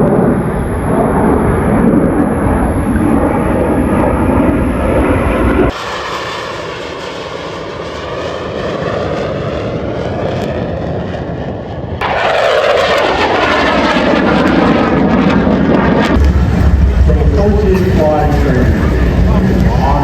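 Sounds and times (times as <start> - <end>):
military jet flying past: 0.0 - 20.0.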